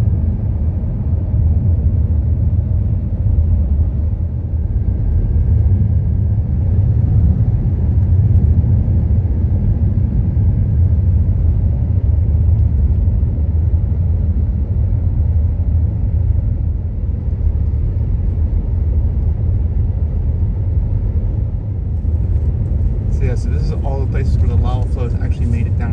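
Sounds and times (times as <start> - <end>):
car road rumble inside cabin: 0.0 - 25.9.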